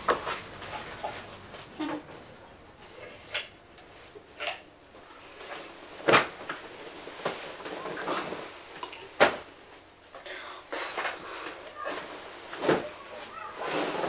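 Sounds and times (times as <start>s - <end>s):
bedding rustling: 0.0s - 14.0s.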